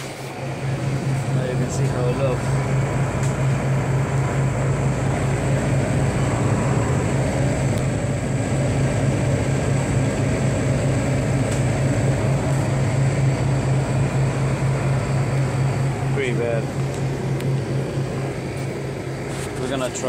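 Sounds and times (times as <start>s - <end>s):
condensing unit fans humming: 0.0s - 20.0s.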